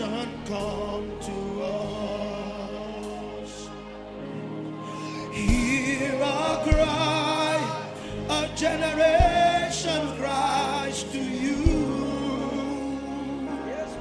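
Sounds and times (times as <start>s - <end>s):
sustained musical backing: 0.0s - 14.0s
voices singing with vibrato: 0.0s - 14.0s.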